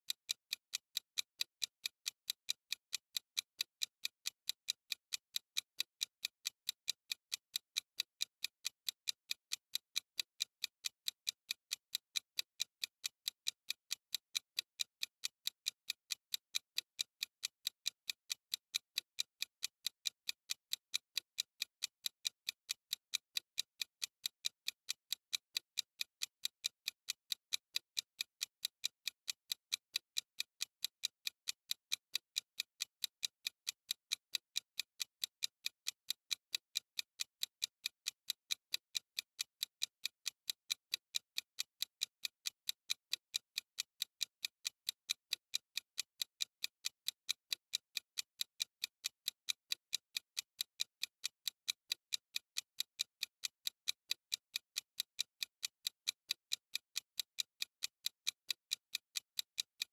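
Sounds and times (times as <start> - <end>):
clock ticking: 0.1 - 59.9.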